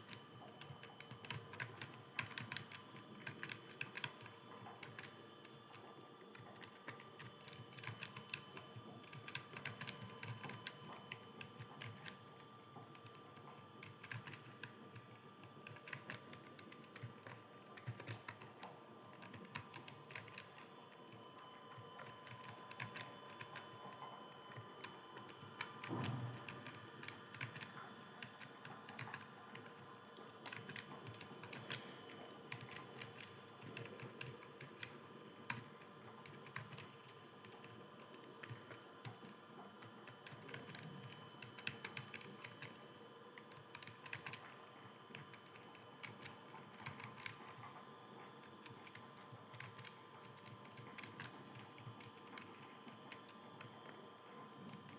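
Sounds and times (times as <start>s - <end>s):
keyboard typing: 0.0s - 54.9s.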